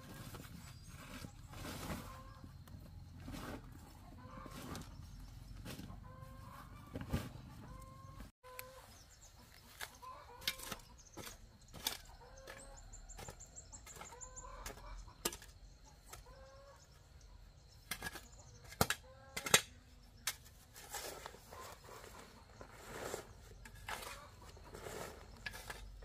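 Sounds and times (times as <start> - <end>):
chickens clucking: 1.2 - 2.8, 3.4 - 19.8, 21.1 - 26.0.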